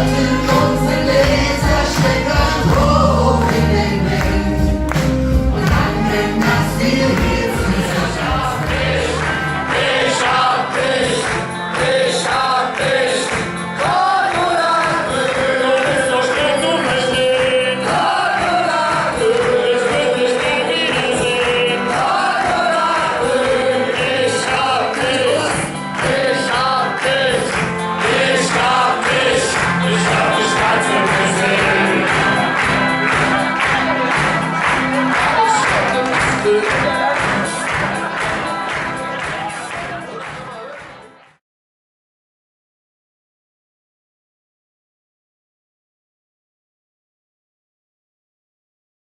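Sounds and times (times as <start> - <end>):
group of voices singing: 0.0 - 40.0
live band playing: 0.0 - 41.4.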